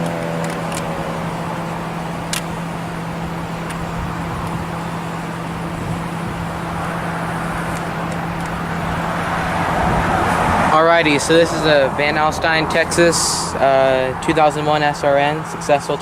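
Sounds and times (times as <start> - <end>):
road traffic hum: 0.0 - 16.0
vehicle passing: 0.0 - 16.0.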